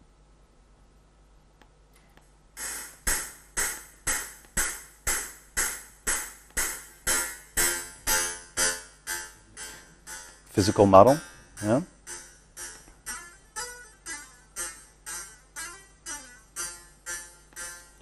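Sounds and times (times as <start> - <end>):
synthesized plucked notes: 2.6 - 18.0.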